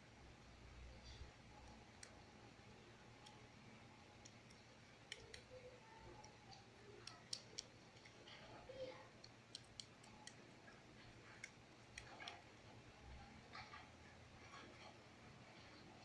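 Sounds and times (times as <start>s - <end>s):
faint irregular clicks and snaps: 0.8s - 16.0s.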